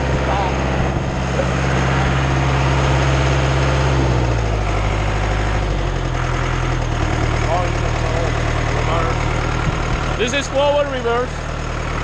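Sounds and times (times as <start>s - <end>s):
concrete pump engine running: 0.0s - 12.0s.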